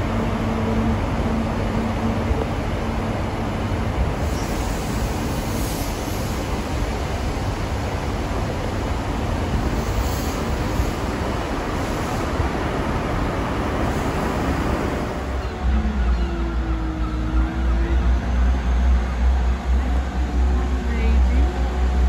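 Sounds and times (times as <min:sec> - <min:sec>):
passenger train running past: 0:00.0 - 0:22.0.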